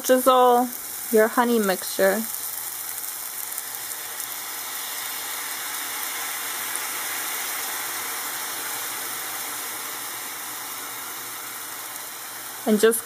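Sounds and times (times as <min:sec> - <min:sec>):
sizzling in hot pan: 0:00.0 - 0:13.0.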